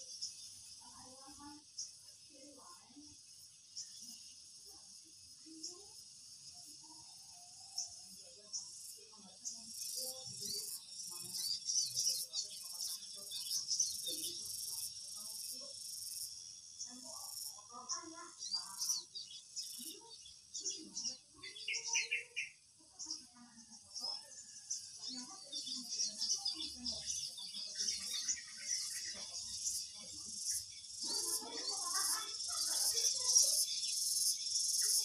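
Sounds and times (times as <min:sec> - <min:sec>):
insects trilling: 0:00.0 - 0:35.0
birds chirping: 0:06.6 - 0:35.0.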